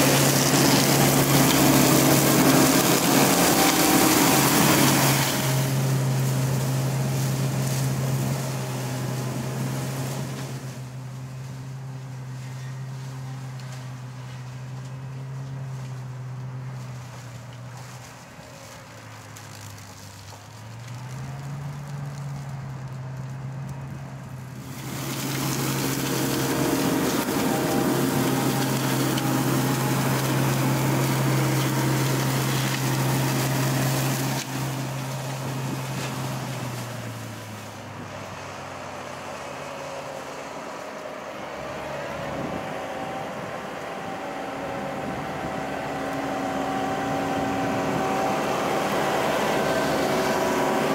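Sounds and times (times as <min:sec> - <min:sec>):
excavator engine drone: 0:00.0 - 0:50.9
flail mower cutting grass: 0:00.0 - 0:50.9.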